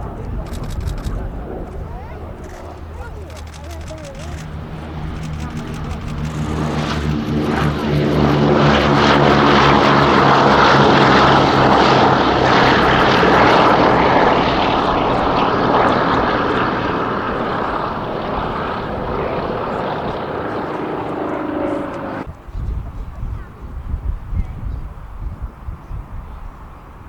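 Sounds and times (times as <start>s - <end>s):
propeller plane engine drone: 0.0s - 27.0s.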